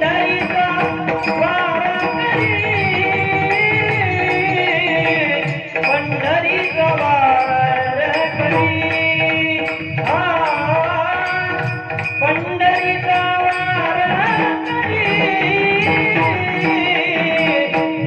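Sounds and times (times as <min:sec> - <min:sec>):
percussion steady beat: 0:00.0 - 0:18.0
person singing devotional song: 0:00.0 - 0:18.0.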